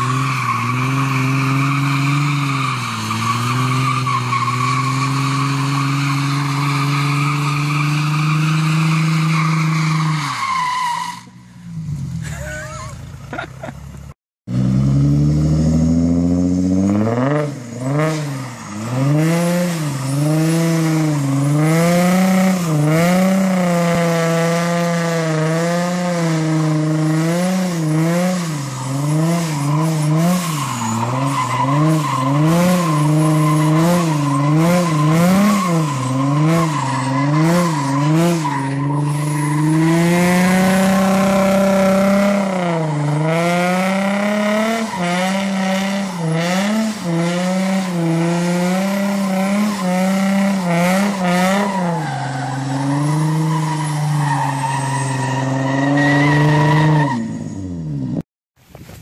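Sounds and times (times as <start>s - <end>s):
car engine revving: 0.0s - 10.6s, 11.2s - 58.2s.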